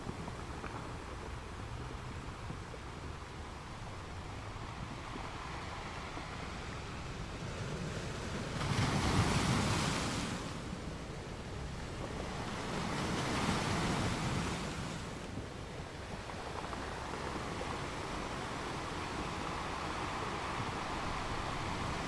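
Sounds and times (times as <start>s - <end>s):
ocean waves washing onto sand: 0.1s - 22.0s.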